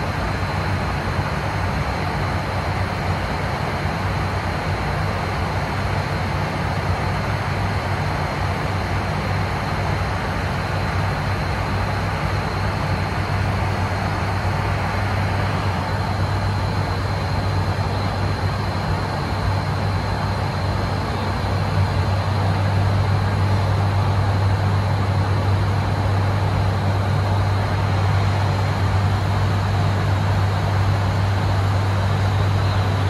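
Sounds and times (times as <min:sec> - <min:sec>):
propeller drone: 0:00.0 - 0:33.0
rush of airflow: 0:00.0 - 0:33.0
thin high whine: 0:00.0 - 0:33.0.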